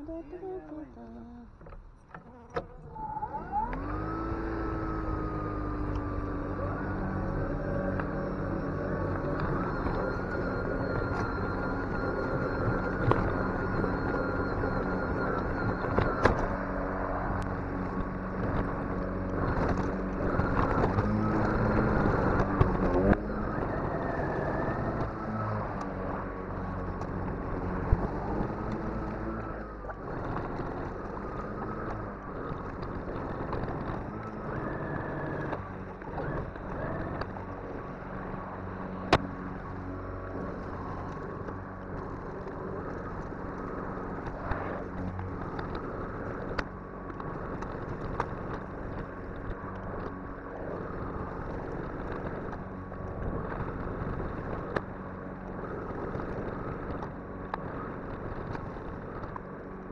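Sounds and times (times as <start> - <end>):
lawn mower motor humming: 1.5 - 59.9.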